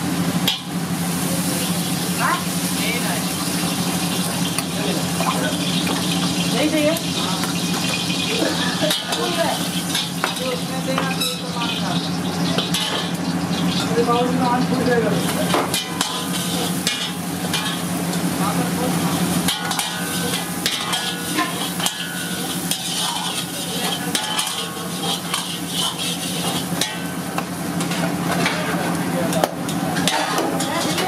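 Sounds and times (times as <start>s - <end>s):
curry sizzling and bubbling: 0.0s - 31.0s
kitchen utensils clattering: 1.6s - 31.0s.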